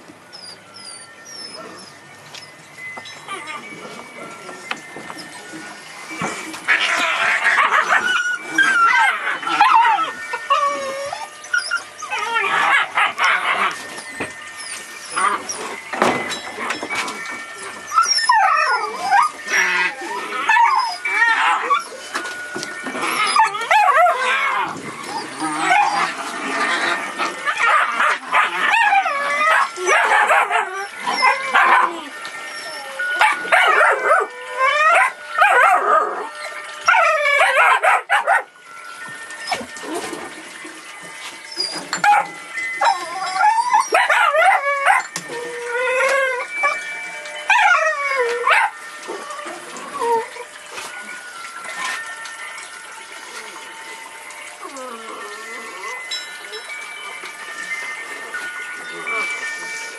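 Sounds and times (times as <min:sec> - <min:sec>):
dogs yipping whining and barking: 0:00.0 - 0:59.9.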